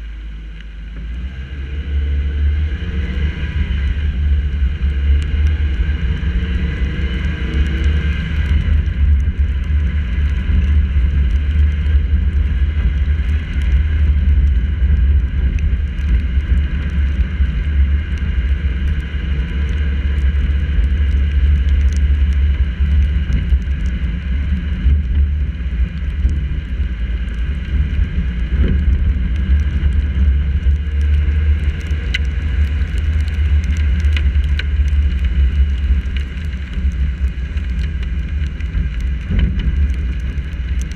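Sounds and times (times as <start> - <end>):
raindrops ticking on camera: 0.0 - 40.9
wind and tyre rumble: 0.0 - 40.9.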